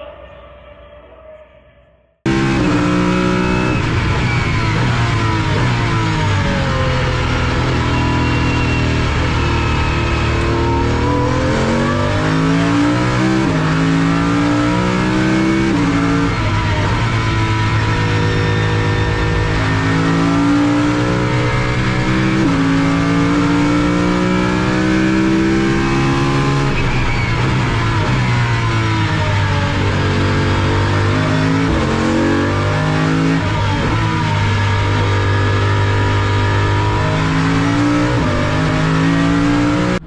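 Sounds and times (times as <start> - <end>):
car engine accelerating with upshifts: 2.2 - 40.0.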